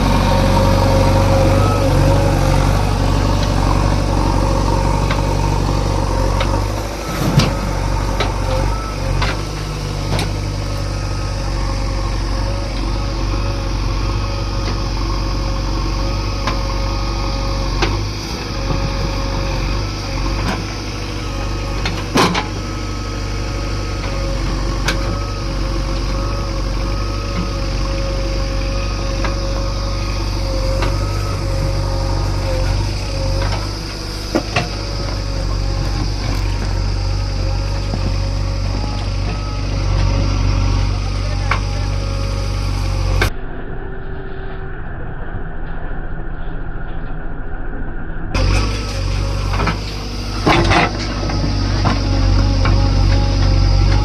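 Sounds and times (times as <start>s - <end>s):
heavy diesel engine running: 0.0s - 54.0s
wavering whine: 0.0s - 54.0s.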